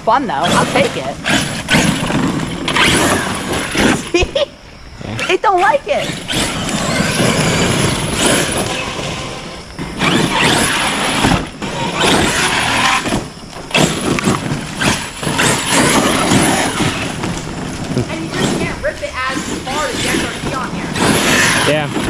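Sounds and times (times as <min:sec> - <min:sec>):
tyres churning on dirt: 0:00.0 - 0:22.0
rc truck motor whining: 0:00.1 - 0:22.0.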